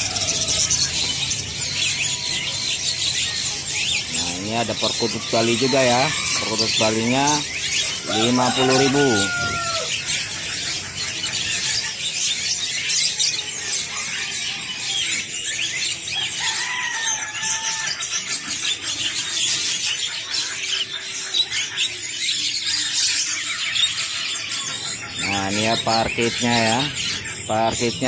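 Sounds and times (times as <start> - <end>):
caged birds chirping: 0.0 - 28.0.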